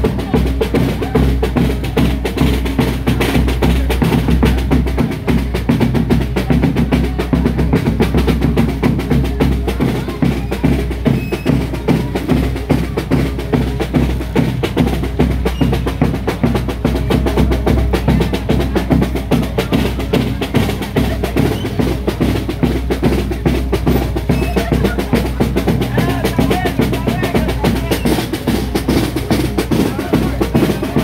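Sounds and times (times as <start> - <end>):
procession drums beating fast: 0.0 - 31.0.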